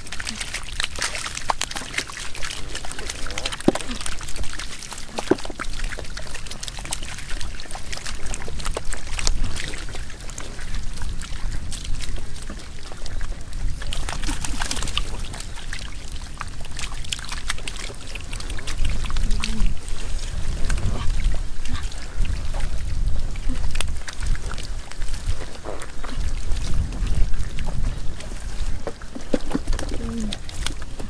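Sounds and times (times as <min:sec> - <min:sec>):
fish thrashing on wet ground: 0:00.0 - 0:31.0
muddy water splashing: 0:00.0 - 0:31.0.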